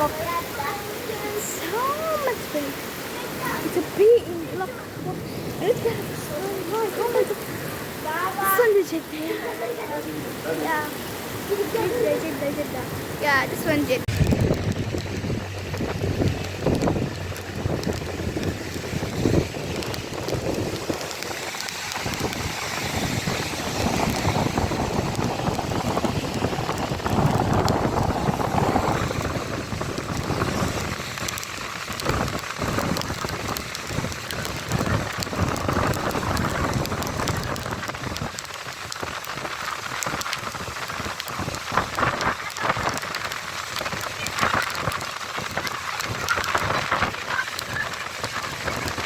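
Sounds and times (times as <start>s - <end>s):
heavy rain hiss: 0.0s - 49.0s
sharp rain clicks: 0.0s - 49.0s.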